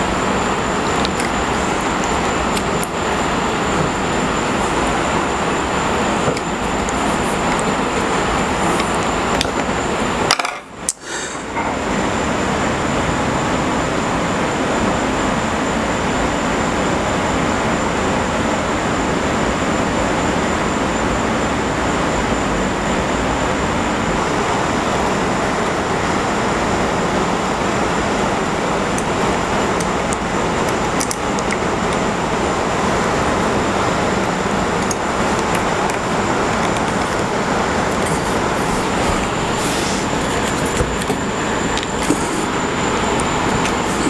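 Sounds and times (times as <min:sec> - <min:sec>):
machine running with whine: 0:00.0 - 0:44.0.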